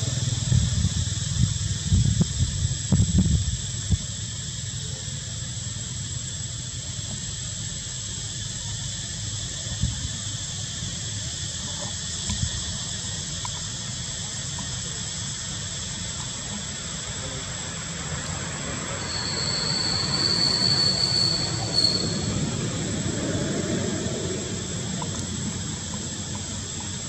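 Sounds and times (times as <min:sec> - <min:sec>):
high insect drone: 0:00.0 - 0:27.0
high steady whine: 0:00.0 - 0:27.0.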